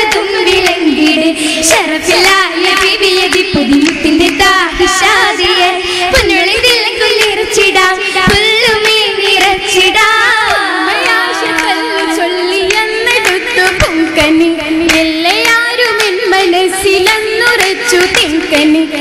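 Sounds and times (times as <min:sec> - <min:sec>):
hand claps: 0:00.0 - 0:05.5, 0:06.2 - 0:16.3, 0:17.0 - 0:18.8
girls singing together: 0:00.0 - 0:19.0.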